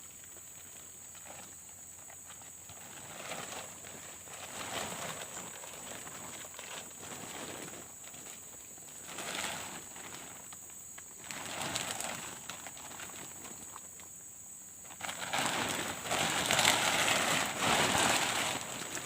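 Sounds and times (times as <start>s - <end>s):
camping gear rustling and scraping: 0.3s - 14.2s, 14.8s - 19.0s.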